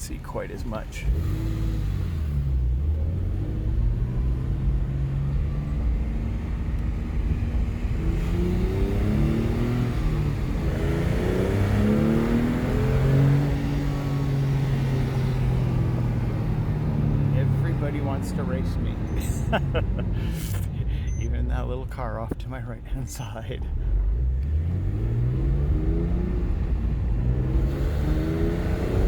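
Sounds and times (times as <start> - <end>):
car engine accelerating hard: 0.1 - 22.2, 23.2 - 29.0.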